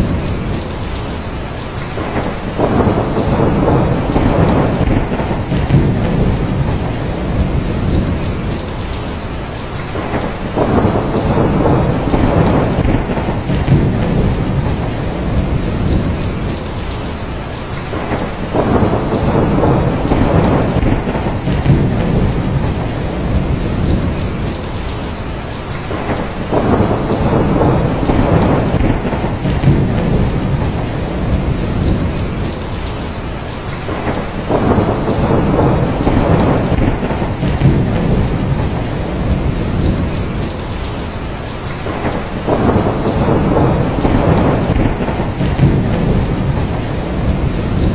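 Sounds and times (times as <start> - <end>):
heavy rain falling: 0.0 - 47.9
thunder rumbling: 0.0 - 47.9.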